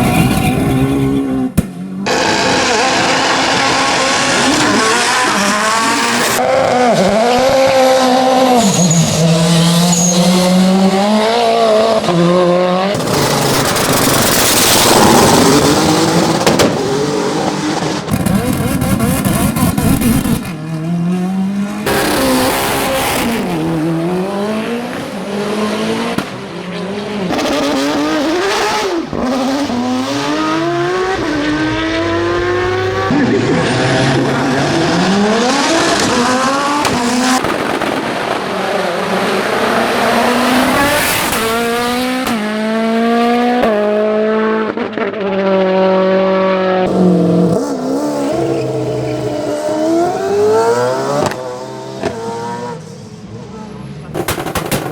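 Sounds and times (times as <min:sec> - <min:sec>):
race car engines at full throttle: 0:00.0 - 0:54.9.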